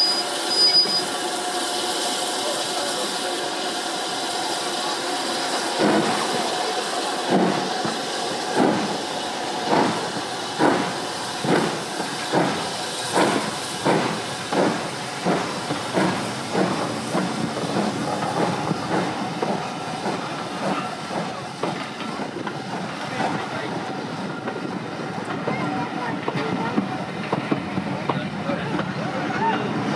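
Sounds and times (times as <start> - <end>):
steam hiss: 0.0 - 29.9.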